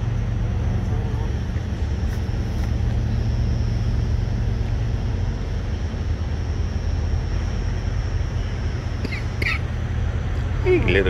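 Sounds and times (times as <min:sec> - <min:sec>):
engines idling: 0:00.0 - 0:11.0
faint high whine: 0:00.0 - 0:11.0.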